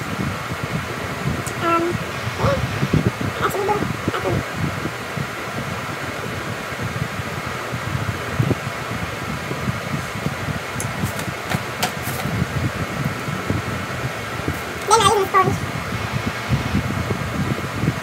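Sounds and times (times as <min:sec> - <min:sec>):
fan-like whooshing: 0:00.0 - 0:18.0.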